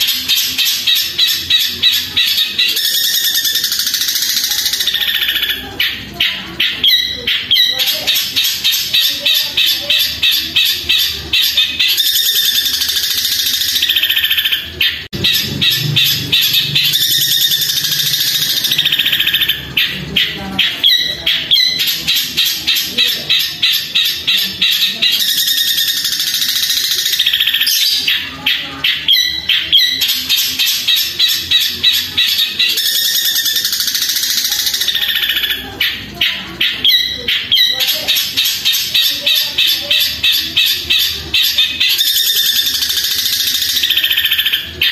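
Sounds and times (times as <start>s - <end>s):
shrike chattering chirps: 0.0s - 44.9s.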